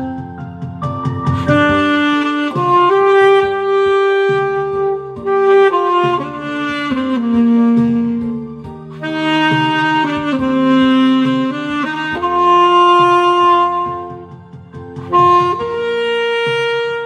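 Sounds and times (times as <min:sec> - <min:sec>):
backing track with bass: 0:00.0 - 0:17.0
slow solo melody: 0:00.0 - 0:17.0.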